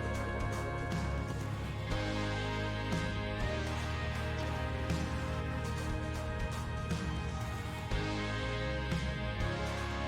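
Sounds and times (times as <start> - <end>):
steady bass: 0.0 - 10.0.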